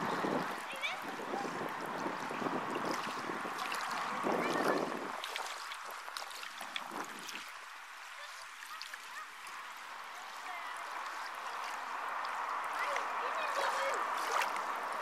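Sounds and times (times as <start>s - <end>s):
waves lapping against rocks: 0.0s - 15.0s.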